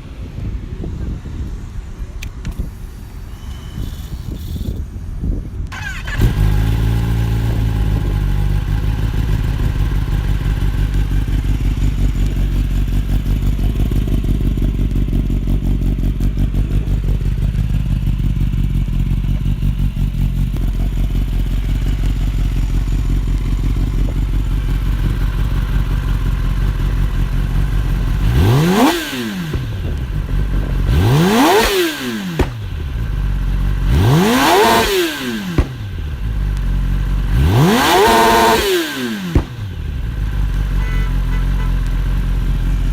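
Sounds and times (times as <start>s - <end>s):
motorcycle engine revving: 5.6s - 42.9s
motorcycle engine idling: 5.7s - 42.9s.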